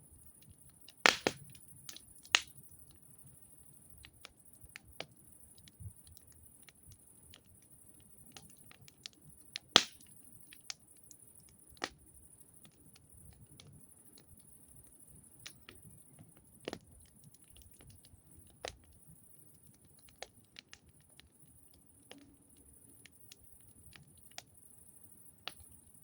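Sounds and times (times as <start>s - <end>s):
campfire crackling and popping: 0.2s - 26.0s.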